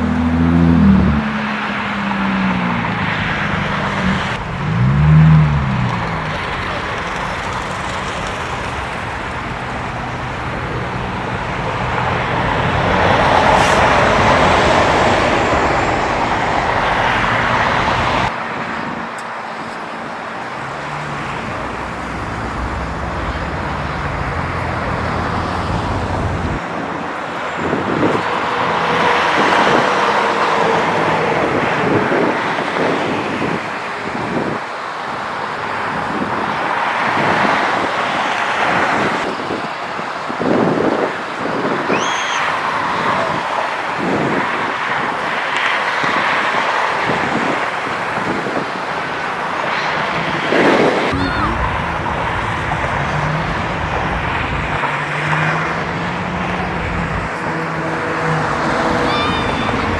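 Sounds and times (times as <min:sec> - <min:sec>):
freeway traffic passing: 0:00.0 - 0:59.9.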